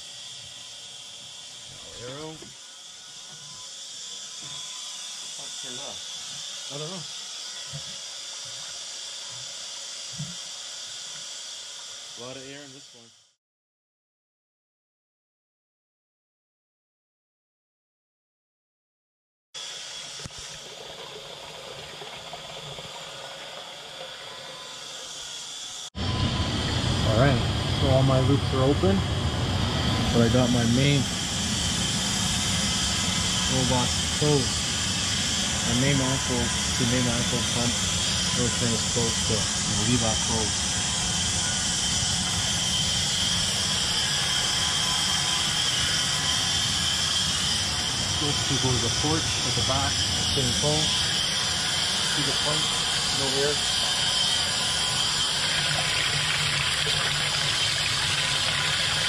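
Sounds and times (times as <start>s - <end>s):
pump humming with rushing hiss: 0.0s - 13.4s, 19.6s - 59.0s.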